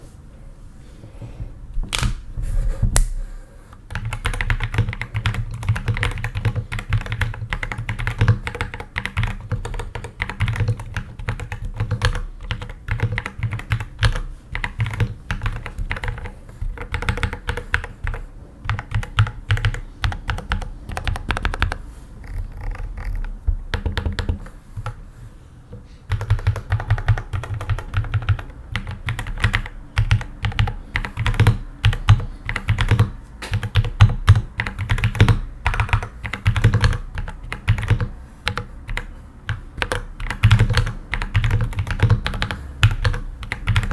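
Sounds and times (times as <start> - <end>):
mechanical keyboard typing: 3.9 - 25.0, 26.1 - 43.9.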